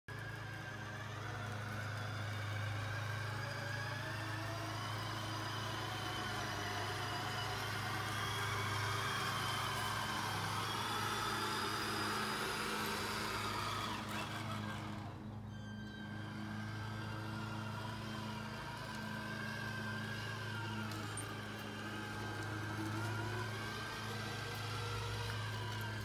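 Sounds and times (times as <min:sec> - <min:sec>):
model truck motor whining: 0:00.1 - 0:26.0.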